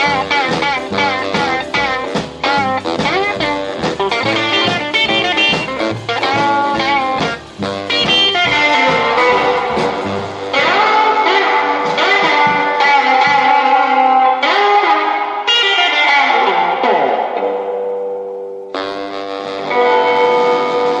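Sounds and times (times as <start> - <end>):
rock and roll guitar music: 0.0 - 21.0.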